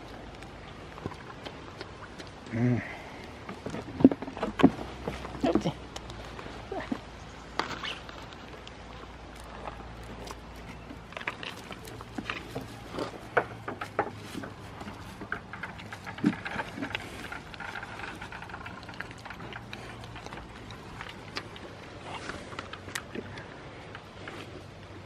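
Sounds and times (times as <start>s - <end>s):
goats eating clicks and rustles: 0.0s - 25.0s.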